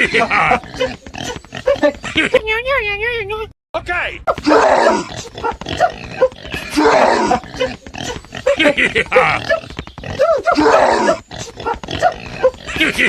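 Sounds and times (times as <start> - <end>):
animal grunting and squealing: 0.0 - 2.2, 4.3 - 13.0.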